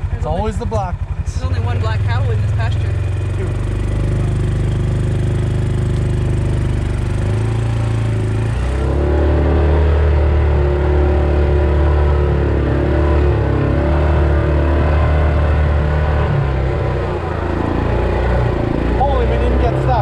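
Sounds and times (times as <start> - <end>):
side-by-side engine revving: 0.0 - 20.0.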